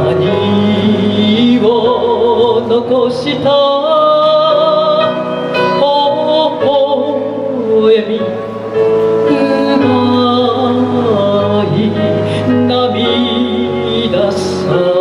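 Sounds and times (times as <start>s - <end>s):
musical accompaniment: 0.0s - 15.0s
woman singing into a microphone: 0.0s - 15.0s.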